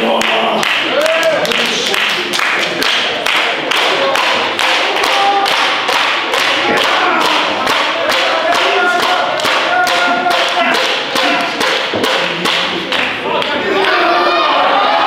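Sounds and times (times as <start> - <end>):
crowd clapping in rhythm: 0.0 - 14.0.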